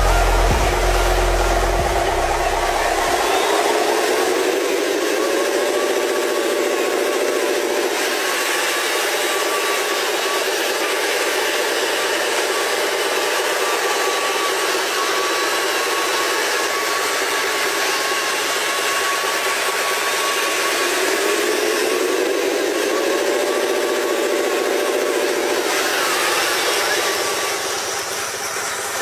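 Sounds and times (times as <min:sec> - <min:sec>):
model truck motor whining: 0:00.0 - 0:29.0.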